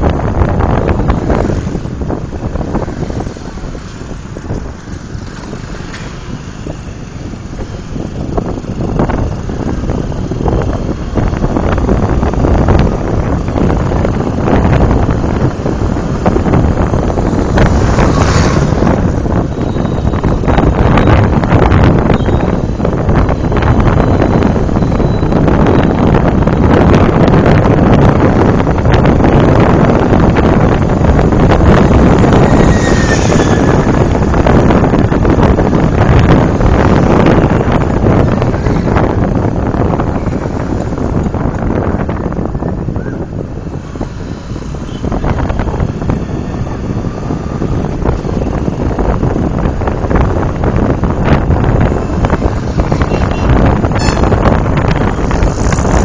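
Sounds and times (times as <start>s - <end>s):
motorbike road noise: 0.0s - 56.0s
wind buffeting microphone: 0.0s - 56.0s.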